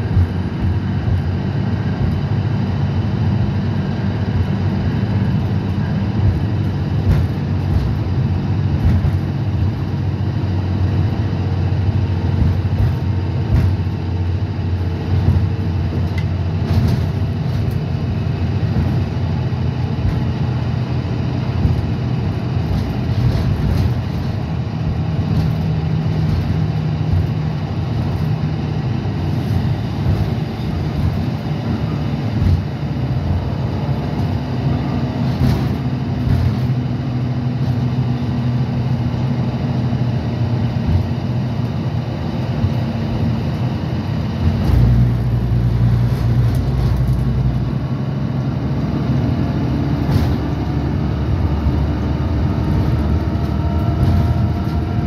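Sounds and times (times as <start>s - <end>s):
bus diesel engine running: 0.0s - 55.0s
road and tyre noise: 0.0s - 55.0s.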